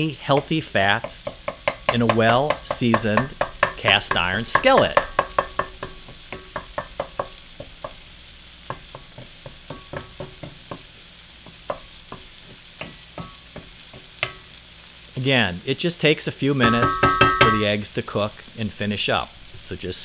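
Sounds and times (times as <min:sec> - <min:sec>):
eggs sizzling in hot fat: 0:00.0 - 0:20.0.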